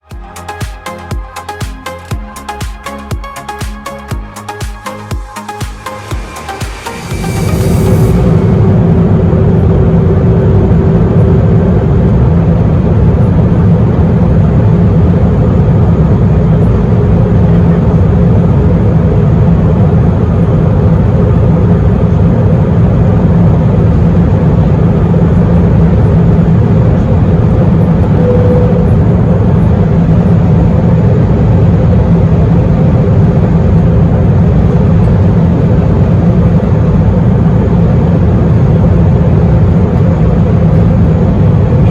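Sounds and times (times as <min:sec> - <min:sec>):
aircraft cabin engine roar: 0:00.0 - 0:41.9.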